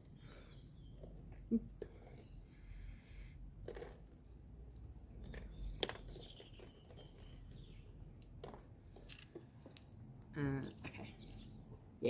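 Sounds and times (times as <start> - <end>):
small stones clicking and knocking: 0.0 - 10.2.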